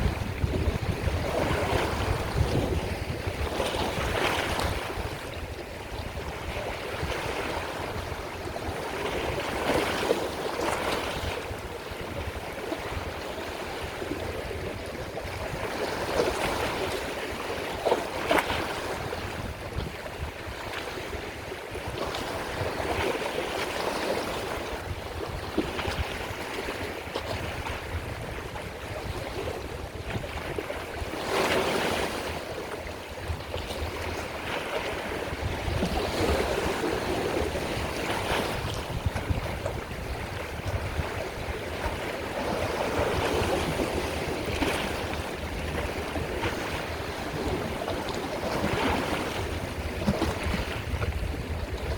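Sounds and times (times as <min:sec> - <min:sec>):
sea waves breaking on shore: 0:00.0 - 0:51.9
wind rumble on microphone: 0:00.0 - 0:51.9.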